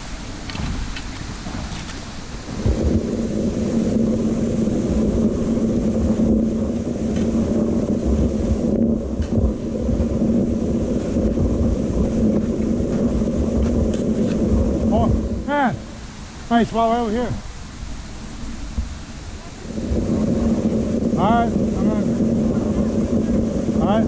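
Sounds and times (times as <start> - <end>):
low mechanical drone: 0.0 - 24.0.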